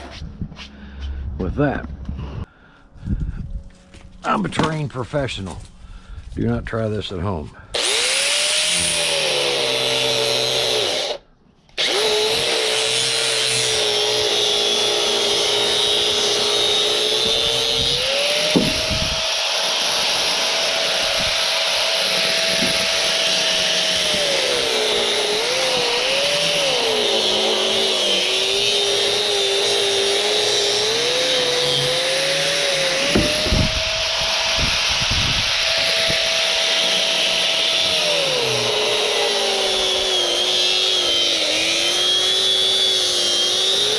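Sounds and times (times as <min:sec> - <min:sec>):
power tool motor whine: 0:07.8 - 0:11.2, 0:11.8 - 0:43.9.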